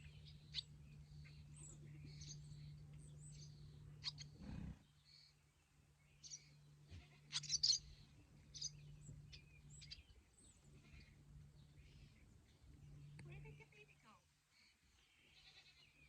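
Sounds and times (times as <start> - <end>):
swallows chirping and twittering: 0.0 - 13.6, 14.5 - 16.0.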